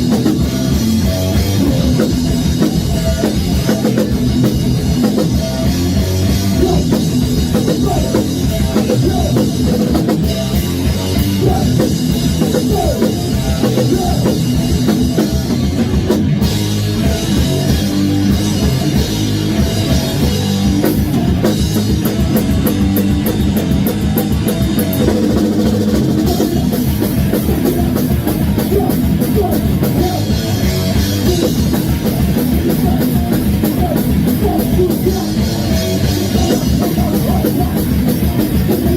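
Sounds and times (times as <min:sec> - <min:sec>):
electric guitars: 0:00.0 - 0:38.9
fast drum kit: 0:00.0 - 0:38.9.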